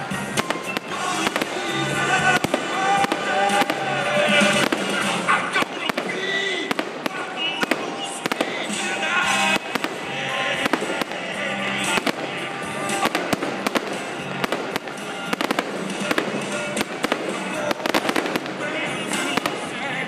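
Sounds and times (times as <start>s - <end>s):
firework shells bursting: 0.3s - 19.8s.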